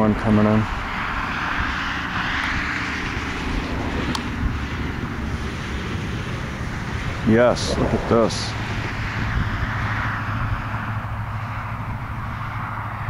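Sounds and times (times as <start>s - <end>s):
aircraft droning overhead: 0.0s - 13.0s.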